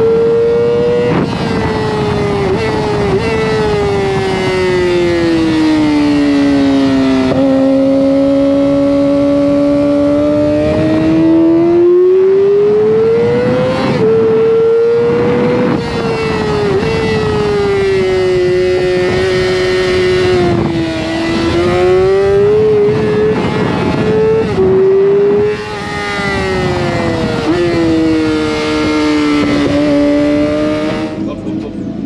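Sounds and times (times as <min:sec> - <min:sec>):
racing motorcycle engine revving: 0:00.0 - 0:32.0
wind noise: 0:00.0 - 0:32.0.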